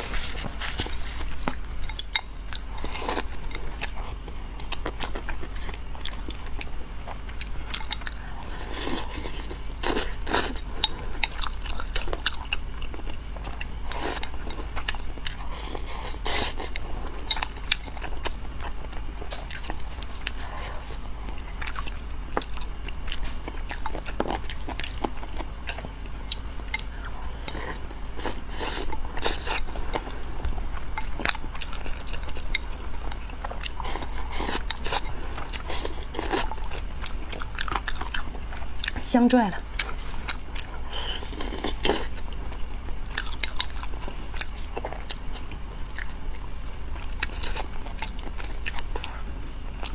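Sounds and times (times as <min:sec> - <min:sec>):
person chewing and crunching: 0:00.0 - 0:49.9.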